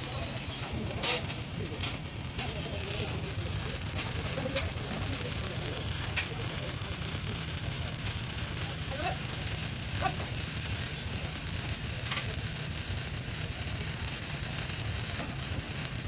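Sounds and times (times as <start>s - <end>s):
welding arc hissing and crackling: 0.0s - 16.0s.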